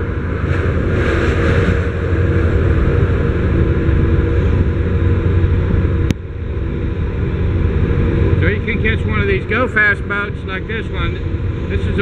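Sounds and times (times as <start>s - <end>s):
boat engines droning: 0.0s - 12.0s
rush of noise: 0.0s - 12.0s.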